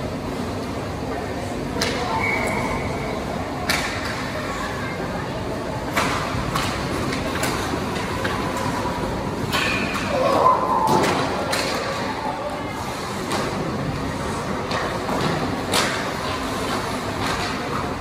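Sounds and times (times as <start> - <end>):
rink background din: 0.0 - 18.0.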